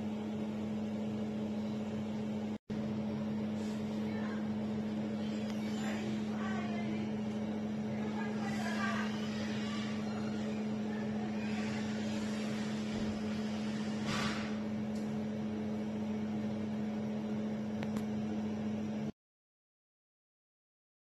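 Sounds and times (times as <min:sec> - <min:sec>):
electrical hum: 0:00.0 - 0:19.1.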